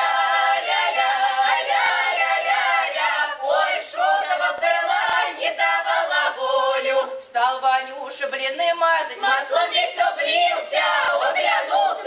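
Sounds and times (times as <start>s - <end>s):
women and man singing a cappella: 0.0s - 12.0s.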